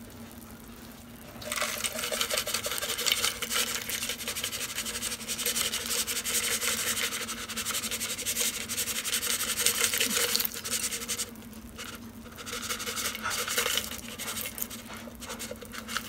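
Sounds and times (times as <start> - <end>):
fried onions rustling crackle: 1.0 - 16.0.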